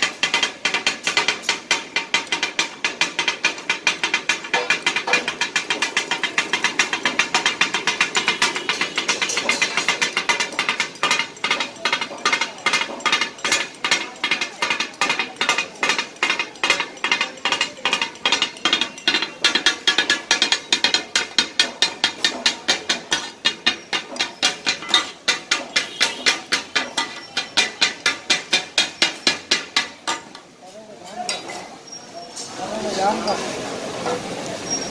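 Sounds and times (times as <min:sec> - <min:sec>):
steel blades clacking on griddle: 0:00.0 - 0:32.5.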